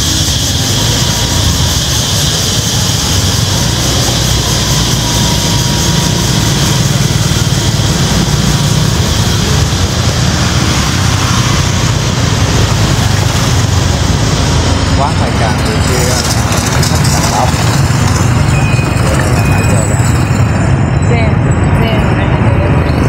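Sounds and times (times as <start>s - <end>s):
motorbike engine running: 0.0s - 23.0s
motorbike traffic: 0.0s - 23.0s.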